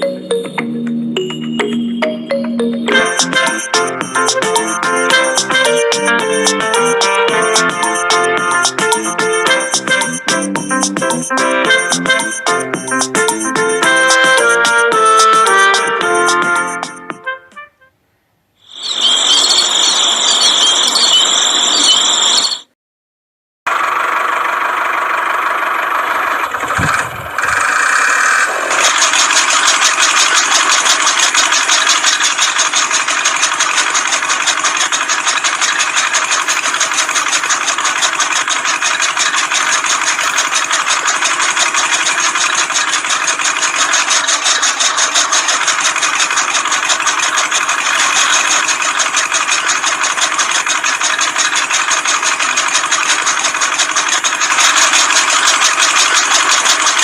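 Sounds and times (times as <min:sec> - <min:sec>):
small tractor motor chattering: 0:02.9 - 0:17.0, 0:18.7 - 0:22.7, 0:23.7 - 0:57.0.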